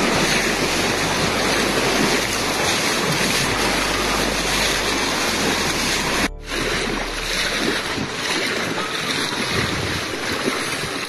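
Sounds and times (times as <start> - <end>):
floodwater rushing and churning: 0.0 - 11.0.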